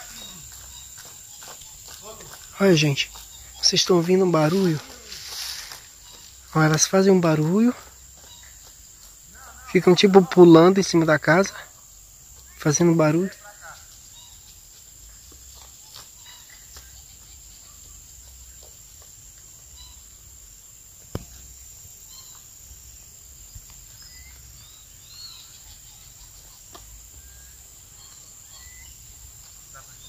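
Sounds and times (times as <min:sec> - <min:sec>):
bird chirps: 0:00.0 - 0:20.3, 0:21.1 - 0:30.0
high insect buzz: 0:00.0 - 0:30.0
wasps tapping and rasping: 0:00.0 - 0:30.0.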